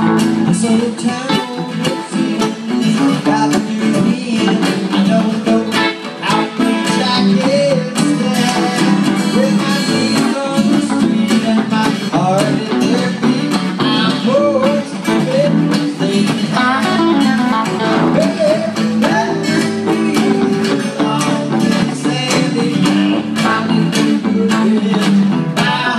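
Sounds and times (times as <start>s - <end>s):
guitar melody with bending notes: 0.0s - 25.9s
guitar strummed chords: 0.0s - 25.9s.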